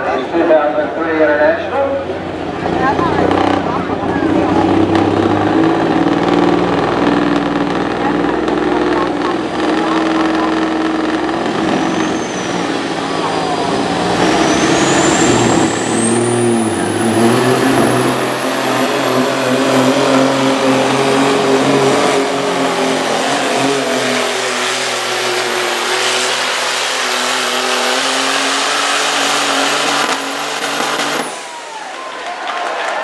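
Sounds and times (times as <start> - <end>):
high turbo whine: 0.0 - 32.0
diesel truck engine at full throttle: 0.0 - 33.0.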